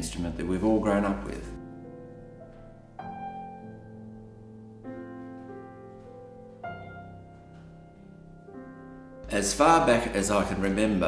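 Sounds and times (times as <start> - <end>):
piano playing slow chords: 0.0 - 11.0.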